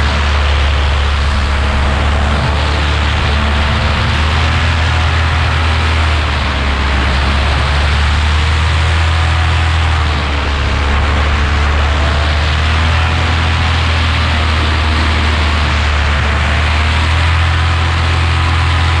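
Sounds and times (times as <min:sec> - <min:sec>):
paramotor engine drone: 0:00.0 - 0:19.0
wind rushing over microphone: 0:00.0 - 0:19.0.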